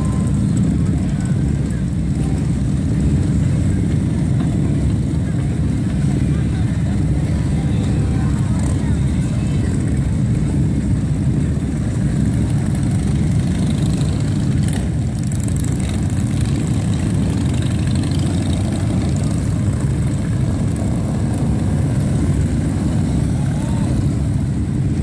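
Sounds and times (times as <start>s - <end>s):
motorcycle engines: 0.0s - 25.0s.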